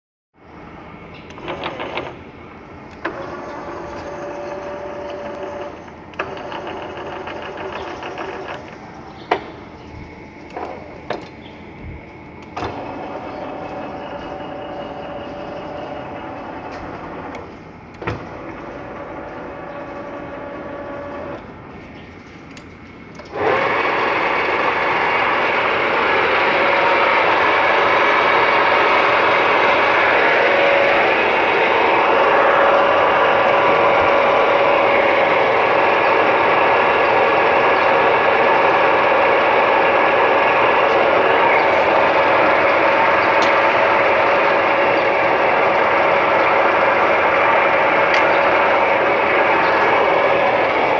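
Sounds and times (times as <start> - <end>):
metal lathe whining: 0.5 - 50.9
sharp clicks: 1.1 - 50.9.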